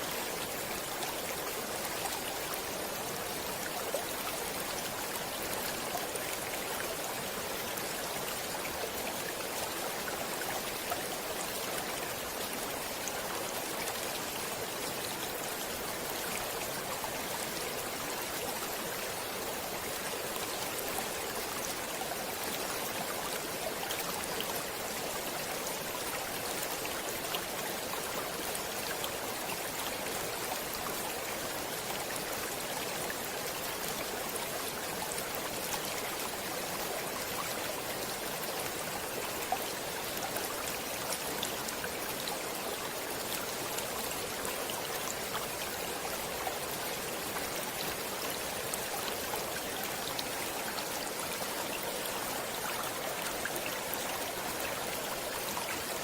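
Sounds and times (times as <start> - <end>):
stream water running over rocks: 0.0 - 56.0.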